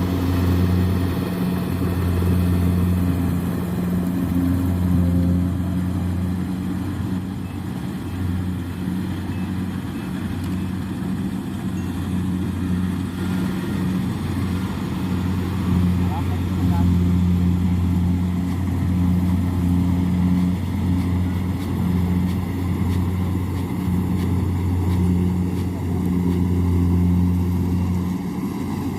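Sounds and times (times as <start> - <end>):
diesel engine humming: 0.0 - 28.9.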